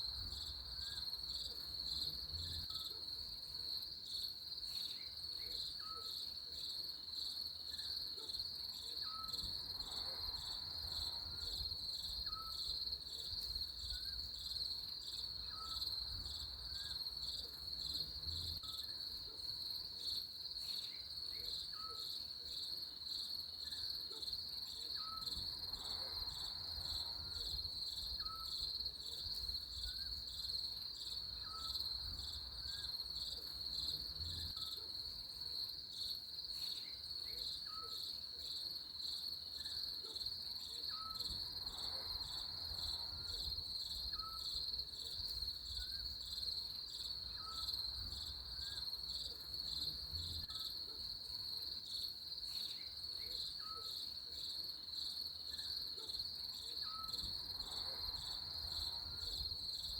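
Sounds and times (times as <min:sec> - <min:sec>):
crickets chirping trill: 0:00.0 - 0:59.9.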